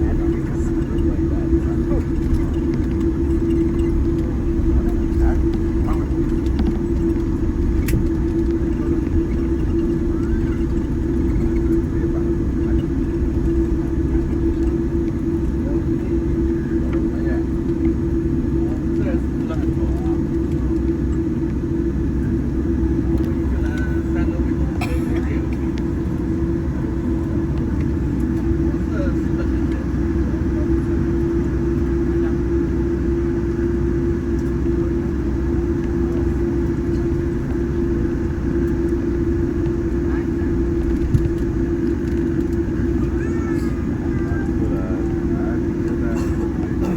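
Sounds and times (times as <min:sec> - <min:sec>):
aircraft cabin low rumble: 0:00.0 - 0:46.9
constant hum: 0:00.0 - 0:46.9.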